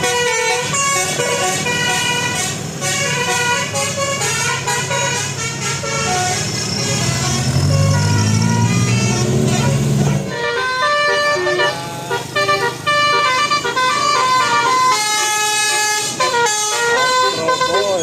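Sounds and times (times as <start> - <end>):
multi-tone bus horn melody: 0.0 - 18.0.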